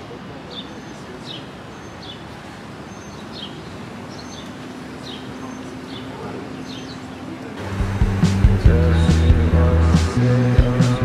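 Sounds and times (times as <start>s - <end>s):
bird chirping: 0.0s - 11.0s
outdoor background noise: 0.0s - 11.0s.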